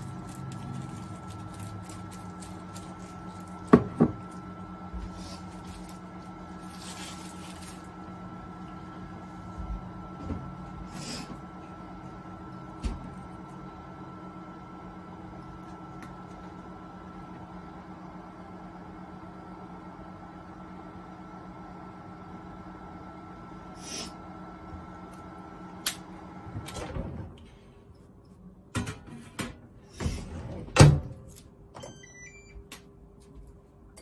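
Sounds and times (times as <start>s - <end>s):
microwave oven humming: 0.0s - 34.0s.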